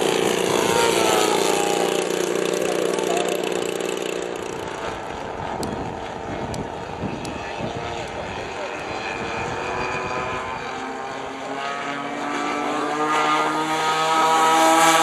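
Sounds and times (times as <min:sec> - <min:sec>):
distant model aircraft drone: 0:00.0 - 0:15.0
model plane engine flying past: 0:00.0 - 0:15.0.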